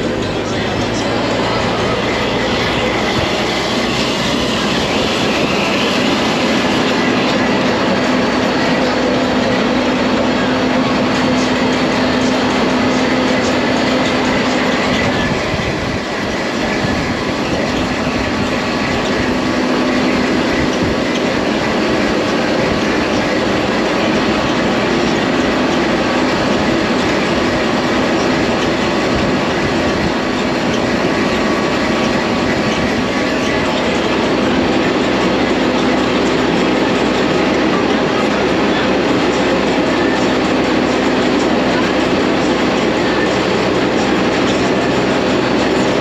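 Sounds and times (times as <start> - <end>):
steady low hum: 0.0 - 46.0
tram running with rattling: 0.0 - 46.0.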